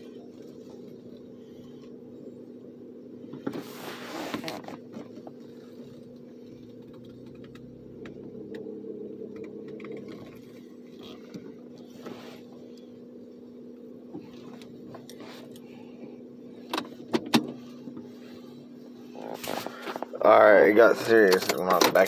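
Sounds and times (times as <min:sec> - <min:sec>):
car engine hum inside cabin: 0:00.0 - 0:22.0.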